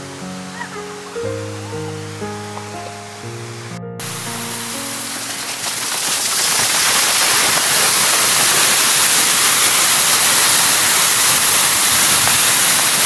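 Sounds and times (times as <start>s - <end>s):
waterfall rushing: 0.4s - 13.0s.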